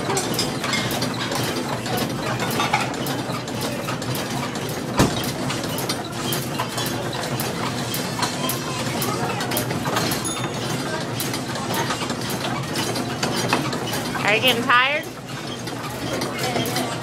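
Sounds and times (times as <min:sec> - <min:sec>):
mechanical ride motor clattering: 0:00.0 - 0:17.0.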